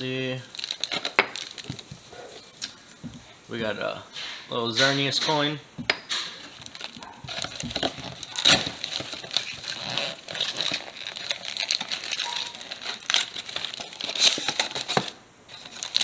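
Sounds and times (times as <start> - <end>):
cardboard packaging rustling: 0.0 - 5.4, 6.1 - 16.0
plastic wrapping crinkling: 0.0 - 5.4, 6.1 - 16.0.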